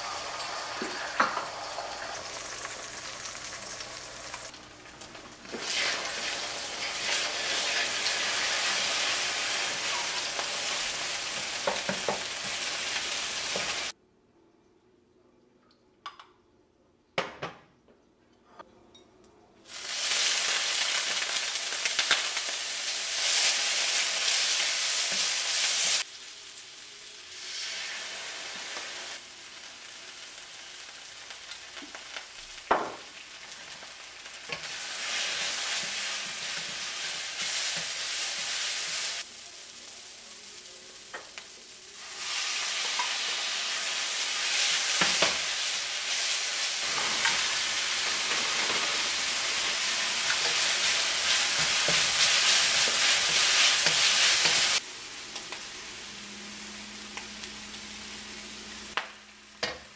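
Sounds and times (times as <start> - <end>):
noodles sizzling in a wok: 0.0 - 14.0, 19.7 - 59.9.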